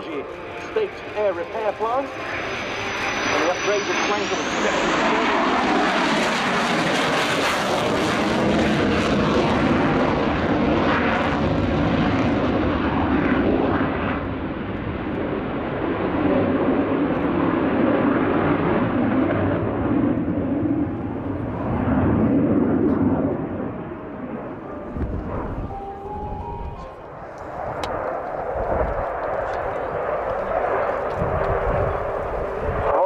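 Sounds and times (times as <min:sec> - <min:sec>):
jet engines roaring on afterburner: 0:00.0 - 0:33.0.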